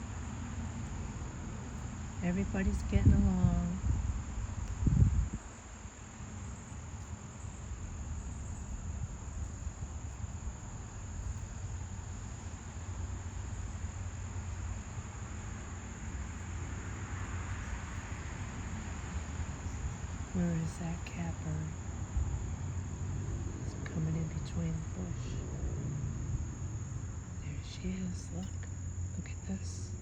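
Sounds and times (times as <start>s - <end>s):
high-pitched insect chorus: 0.0s - 30.0s
low rumble: 0.0s - 30.0s.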